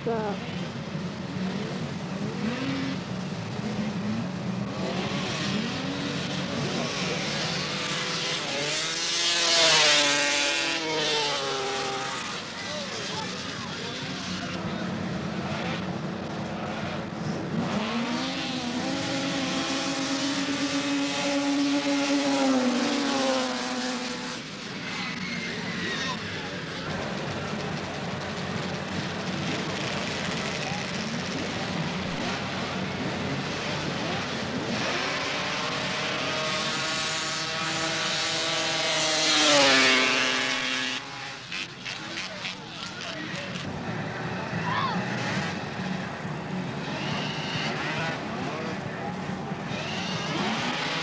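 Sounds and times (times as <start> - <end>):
snowmobile engine accelerating: 0.0 - 51.0.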